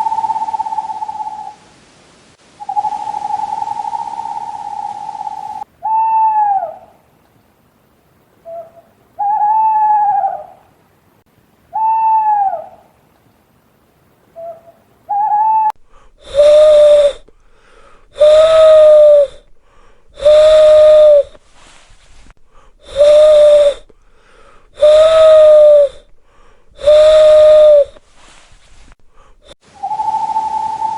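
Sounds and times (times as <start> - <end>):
hoarse owl call: 0.0 - 1.7, 2.5 - 7.1, 8.4 - 10.8, 11.7 - 13.0, 14.3 - 30.9
owl hooting: 0.0 - 1.7, 2.6 - 7.0, 8.4 - 10.7, 11.7 - 13.0, 14.3 - 30.9.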